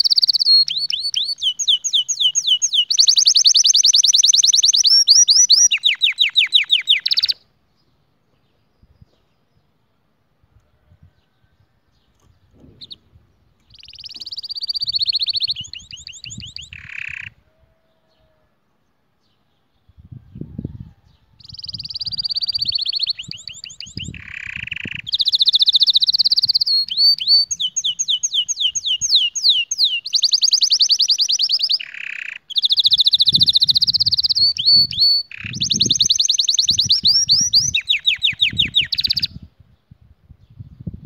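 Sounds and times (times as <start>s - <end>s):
canary singing trills: 0.0s - 7.5s, 12.0s - 18.4s, 19.4s - 39.5s.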